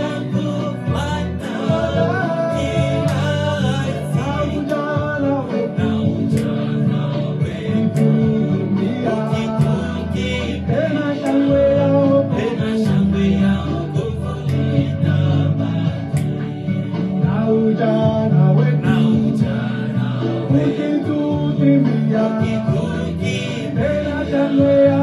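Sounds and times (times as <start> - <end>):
gospel singing over band: 0.0 - 25.0.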